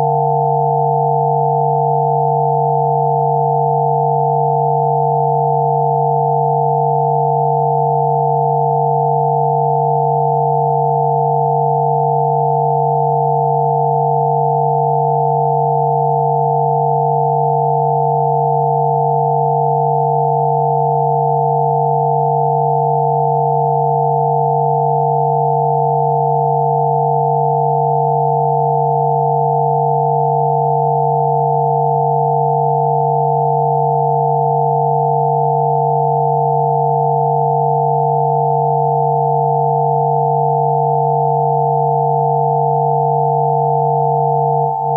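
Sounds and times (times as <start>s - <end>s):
layered electronic sine tones: 0.0s - 44.9s.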